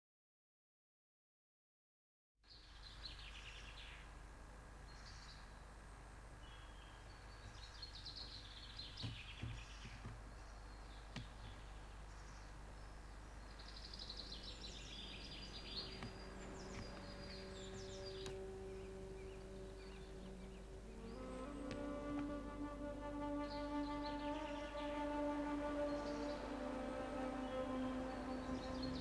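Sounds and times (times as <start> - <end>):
background hiss and hum: 2.5 - 29.0
songbirds trilling: 2.5 - 29.0
soft held musical tones: 4.1 - 29.0.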